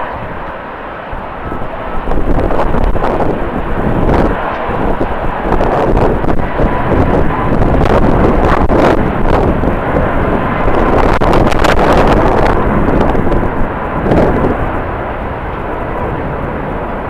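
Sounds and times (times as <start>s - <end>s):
jet engines with whine: 0.0s - 17.0s
wind buffeting microphone: 0.0s - 17.0s.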